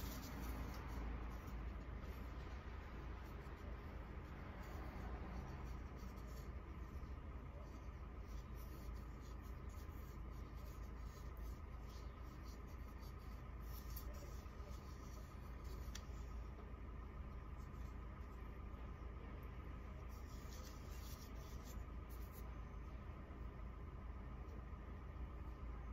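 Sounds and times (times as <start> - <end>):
scratchy rubbing of coconut shell: 0.0 - 18.9, 19.9 - 22.7
low hum: 0.0 - 25.9.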